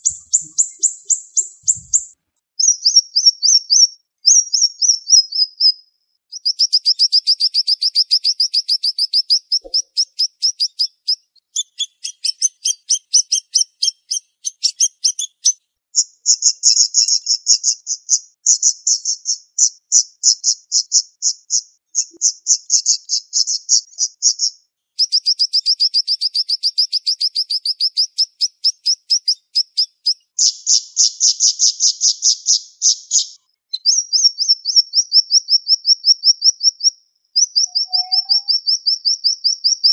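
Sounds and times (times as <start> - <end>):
songbird chirping rapidly: 0.0 - 39.9.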